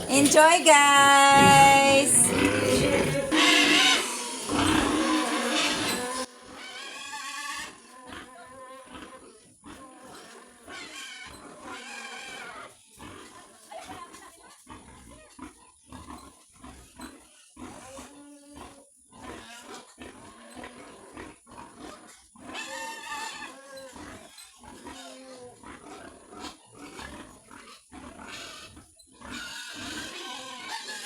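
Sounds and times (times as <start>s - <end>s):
pigs grunting and squealing: 0.0s - 31.0s.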